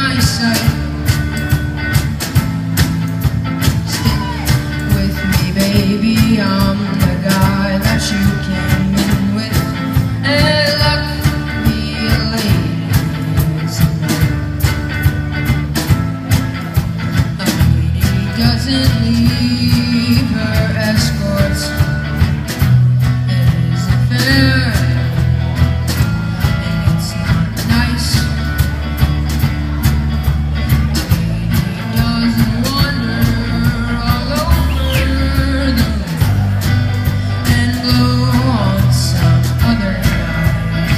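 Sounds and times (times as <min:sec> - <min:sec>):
held bass notes: 0:00.0 - 0:40.9
live rock band playing: 0:00.0 - 0:40.9
steady drum beat: 0:00.0 - 0:40.9.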